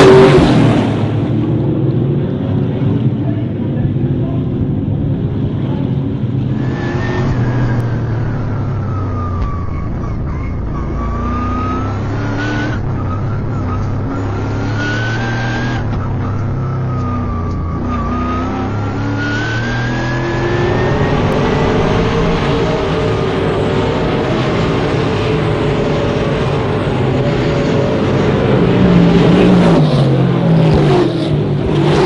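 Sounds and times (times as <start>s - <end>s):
race car engine revving: 5.1s - 32.0s.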